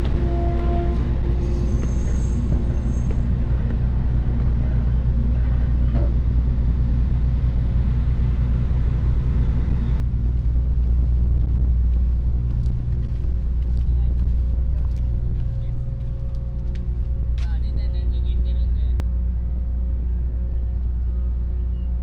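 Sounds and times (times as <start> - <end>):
ship diesel engines rumbling: 0.0 - 22.0.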